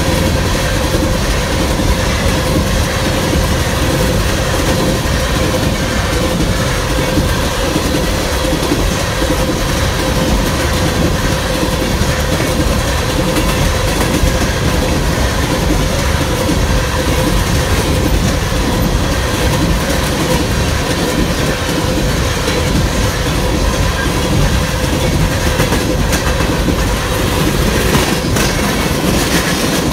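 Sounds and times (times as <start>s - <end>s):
train wheels clacking over rails: 0.0s - 29.9s.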